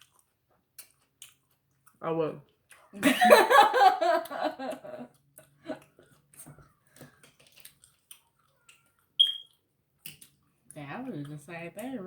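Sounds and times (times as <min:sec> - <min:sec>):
chewing food: 0:00.0 - 0:03.0, 0:04.2 - 0:12.0.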